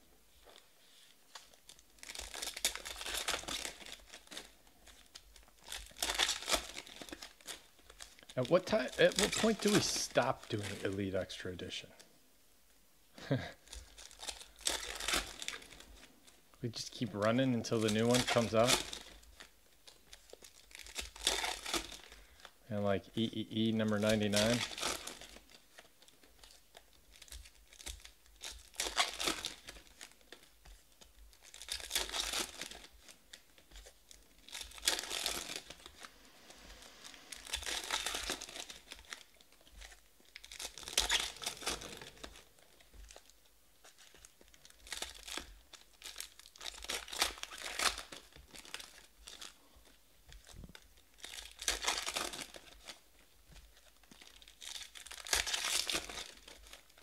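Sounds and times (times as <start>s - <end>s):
foil wrappers torn and crinkled: 1.3s - 11.4s, 13.2s - 22.6s, 23.2s - 57.0s.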